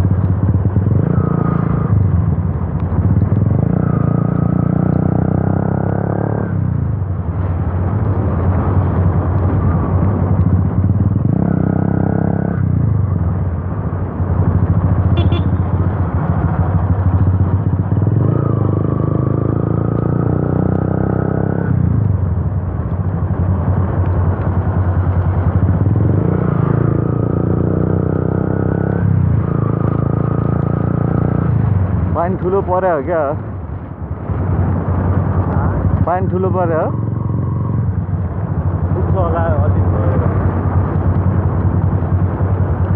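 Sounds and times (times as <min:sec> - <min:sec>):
loud motorcycle engine: 0:00.0 - 0:42.9.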